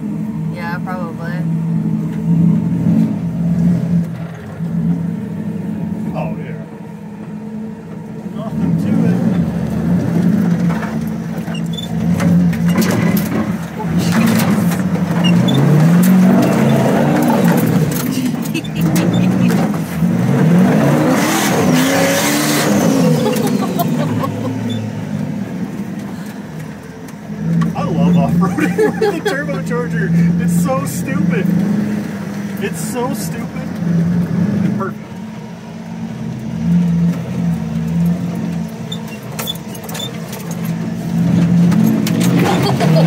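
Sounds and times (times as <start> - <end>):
pickup truck engine revving: 0.0 - 43.0.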